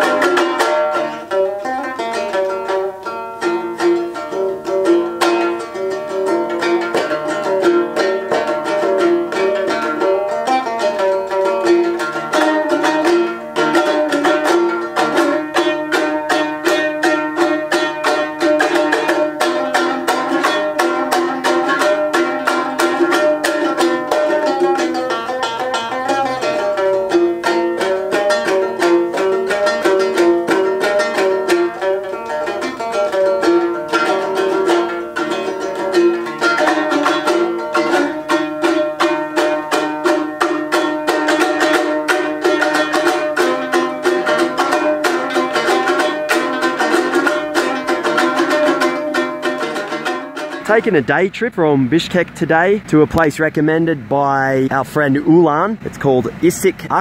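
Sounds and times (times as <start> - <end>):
lute strumming: 0.0 - 57.0.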